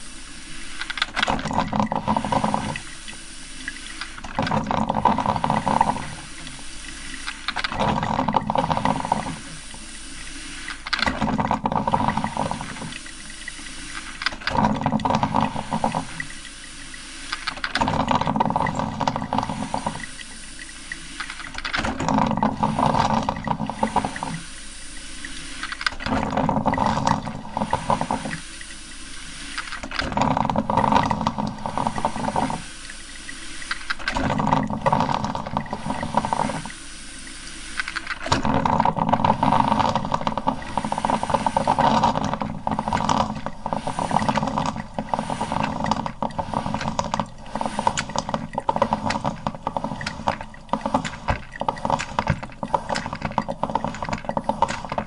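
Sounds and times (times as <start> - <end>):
coffee maker gurgling: 0.0 - 55.0.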